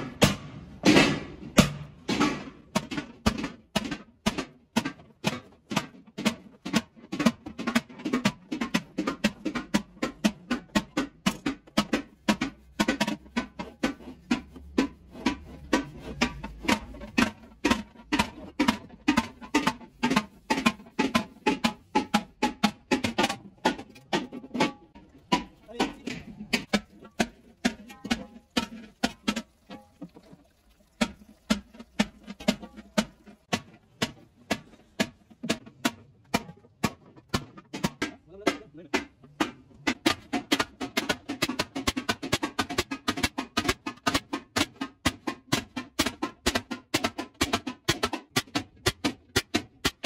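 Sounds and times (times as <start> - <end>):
background music with percussive beat: 0.0 - 30.2, 30.9 - 50.0.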